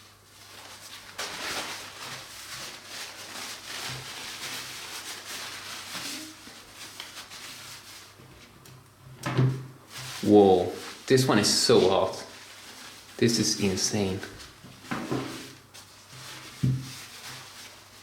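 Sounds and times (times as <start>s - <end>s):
rustling and handling noises: 0.0s - 18.0s.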